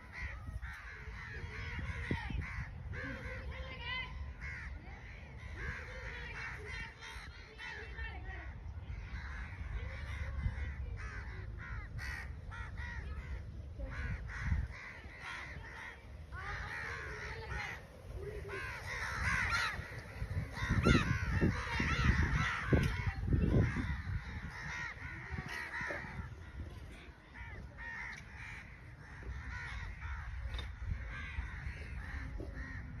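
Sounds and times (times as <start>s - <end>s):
crows cawing: 0.0s - 33.0s.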